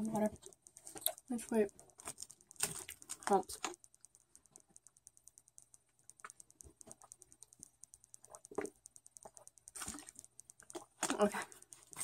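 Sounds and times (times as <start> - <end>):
fast faint high ticking: 0.0 - 12.0.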